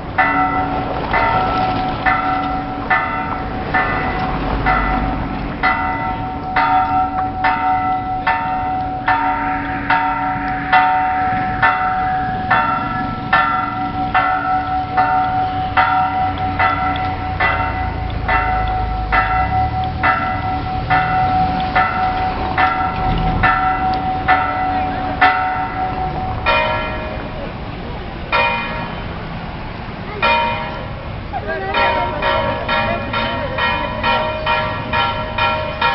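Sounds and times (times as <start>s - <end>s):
church bells struck rapidly: 0.0s - 29.3s, 30.1s - 35.9s
hum of ringing bells: 0.0s - 29.4s, 30.0s - 35.9s.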